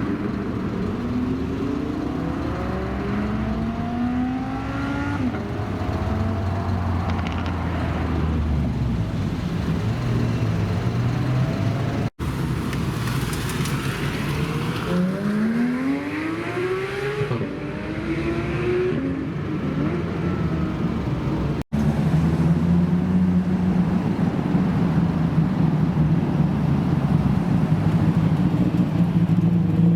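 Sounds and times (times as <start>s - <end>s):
car engines accelerating: 0.0s - 29.9s.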